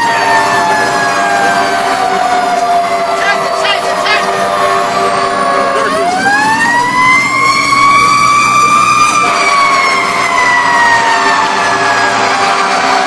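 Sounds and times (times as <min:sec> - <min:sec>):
mechanical siren wailing: 0:00.0 - 0:13.0.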